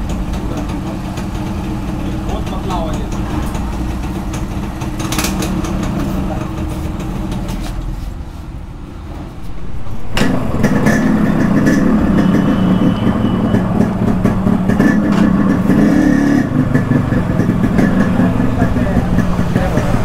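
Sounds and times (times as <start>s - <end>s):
two-stroke engine running: 0.0s - 7.9s, 9.6s - 20.0s.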